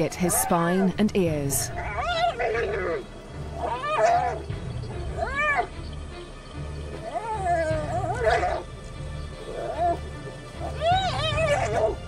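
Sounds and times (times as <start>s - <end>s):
hyenas squealing: 0.0s - 1.0s, 1.7s - 5.8s, 6.8s - 8.7s, 9.3s - 12.0s
low pulsing music: 0.0s - 12.0s.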